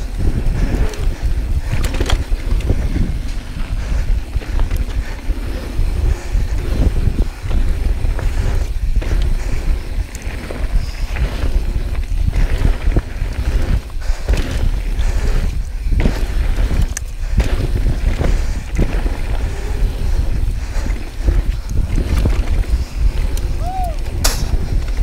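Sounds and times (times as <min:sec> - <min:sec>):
heavy breathing: 0:00.0 - 0:24.9
bike tyre noise: 0:00.0 - 0:25.0
wind buffeting microphone: 0:00.0 - 0:25.0.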